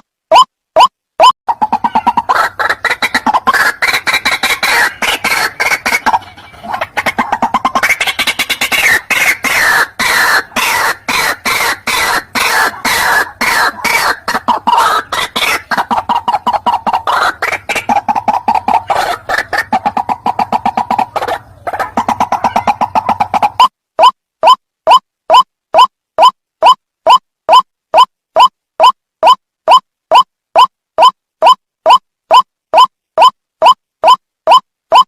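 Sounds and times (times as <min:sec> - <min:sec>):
waterhen croaking calls: 0:00.3 - 0:35.0.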